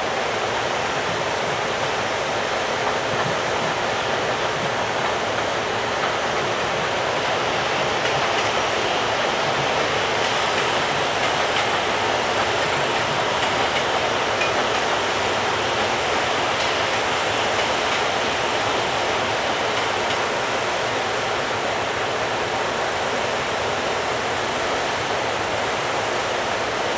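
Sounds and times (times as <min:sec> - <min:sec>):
train wheels running on rails: 0:00.0 - 0:26.9.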